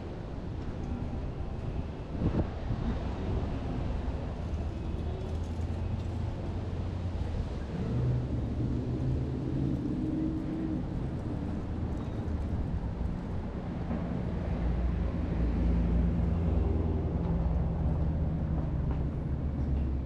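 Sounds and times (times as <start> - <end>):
low rumble of traffic: 0.0 - 20.0
vehicle engine hum: 0.0 - 20.0.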